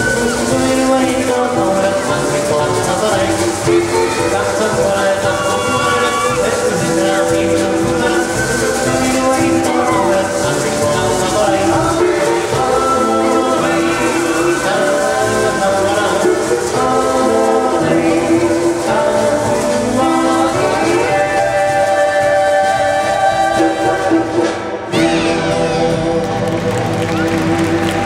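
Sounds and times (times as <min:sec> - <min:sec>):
people singing: 0:00.0 - 0:26.2
band playing: 0:00.0 - 0:28.0.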